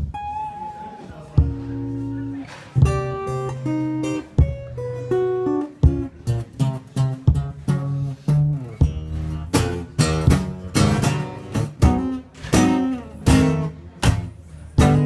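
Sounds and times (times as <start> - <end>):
guitar strummed: 0.0 - 15.0.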